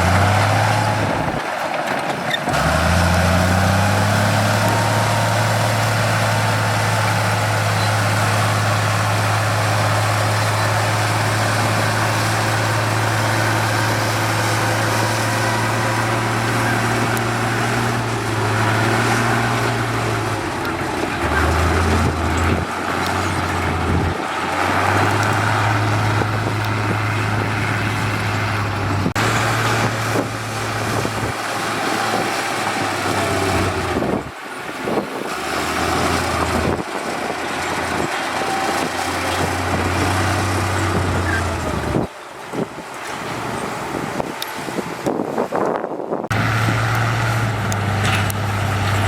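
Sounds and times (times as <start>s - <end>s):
diesel machinery engine drone: 0.0s - 49.0s.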